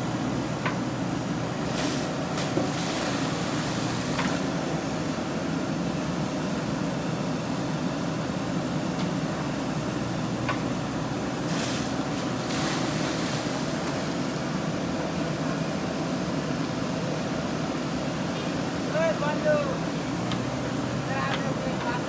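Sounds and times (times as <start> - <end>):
backhoe diesel engine running: 0.0 - 22.0.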